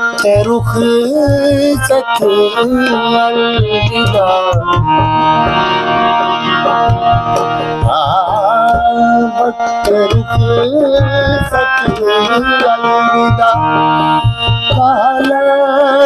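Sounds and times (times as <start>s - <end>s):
man singing: 0.0s - 5.6s, 7.8s - 16.0s
harmonium: 0.0s - 16.0s.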